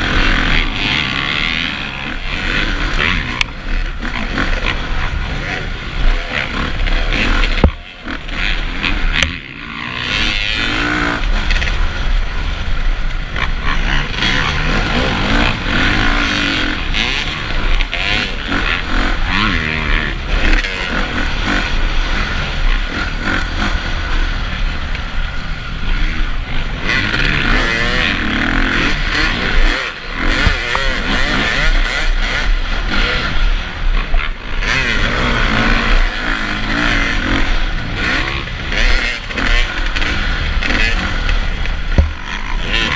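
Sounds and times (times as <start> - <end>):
motocross engines revving: 0.0 - 42.9.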